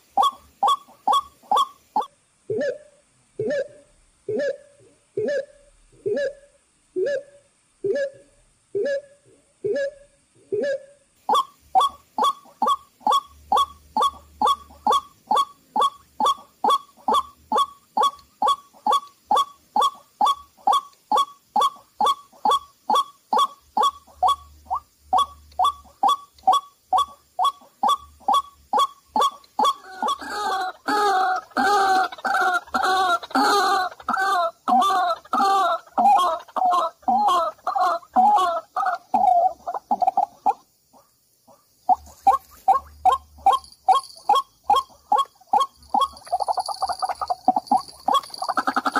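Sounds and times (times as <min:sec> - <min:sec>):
waterhen calls: 0:00.0 - 0:02.8, 0:10.5 - 0:48.9.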